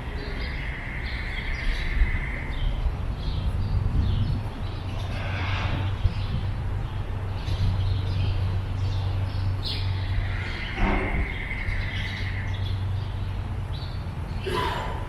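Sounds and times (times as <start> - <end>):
birds calling and chirping: 0.0 - 15.0
steady low rumble: 0.0 - 15.0.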